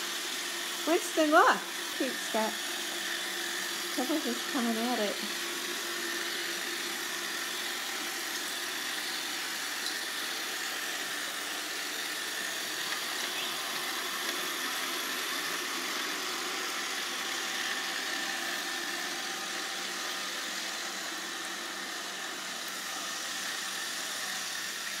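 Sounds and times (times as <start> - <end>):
robot vacuum running: 0.0 - 25.0.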